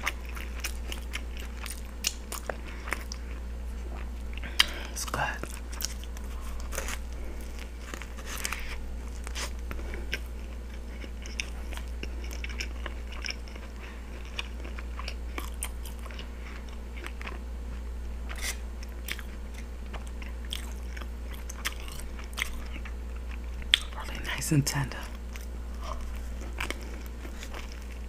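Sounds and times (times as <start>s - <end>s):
person biting and chewing: 0.0s - 17.4s, 18.3s - 24.3s, 25.0s - 28.0s
steady low hum: 0.0s - 28.0s.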